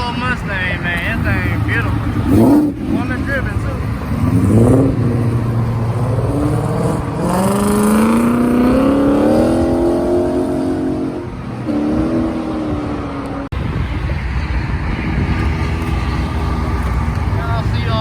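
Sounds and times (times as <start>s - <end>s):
car engine accelerating: 0.0s - 18.0s
road noise: 0.0s - 18.0s.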